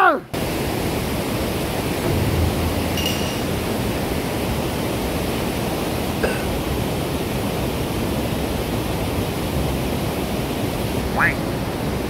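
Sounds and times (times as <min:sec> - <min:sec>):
steady rushing outdoor noise: 0:00.4 - 0:12.0.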